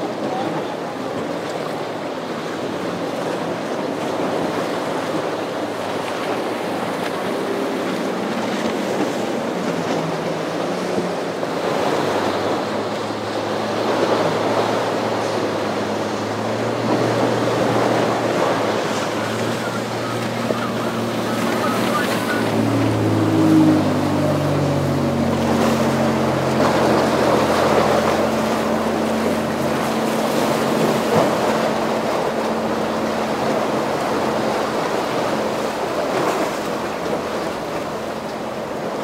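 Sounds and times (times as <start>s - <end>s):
outboard engine humming: 0.0s - 39.0s
rough surf churning water: 0.0s - 39.0s.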